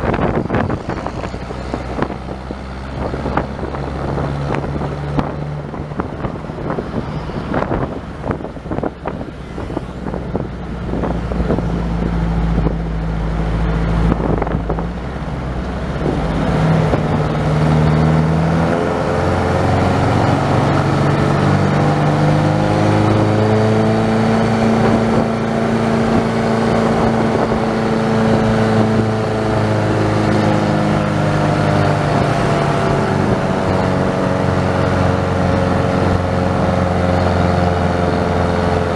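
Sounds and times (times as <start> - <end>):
road noise: 0.0 - 38.9
vehicle engine: 0.0 - 38.9
wind buffeting: 0.0 - 38.9.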